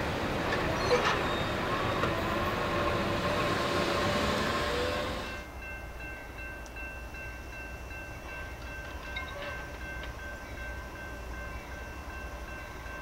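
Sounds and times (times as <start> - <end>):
train rumble and rail noise: 0.0 - 13.0.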